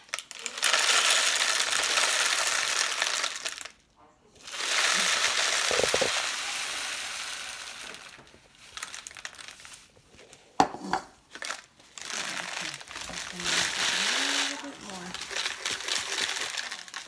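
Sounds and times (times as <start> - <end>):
seed pouring into plastic bottle: 0.0 - 3.8, 4.4 - 9.9, 11.4 - 17.0.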